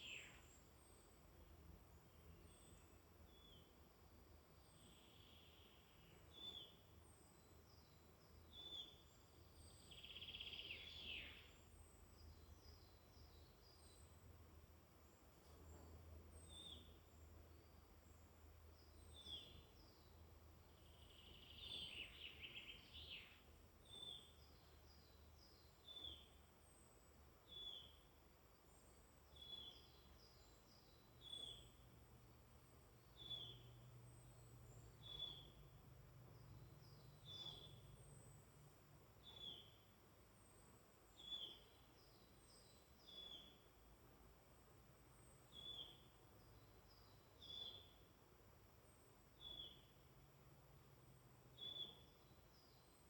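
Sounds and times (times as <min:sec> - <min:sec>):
songbirds calling: 0:00.0 - 0:44.1, 0:44.9 - 0:50.2, 0:50.8 - 0:53.0.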